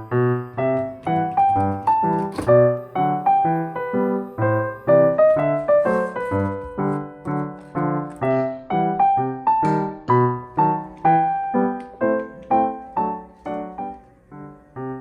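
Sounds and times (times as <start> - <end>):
light piano tune: 0.0 - 15.0.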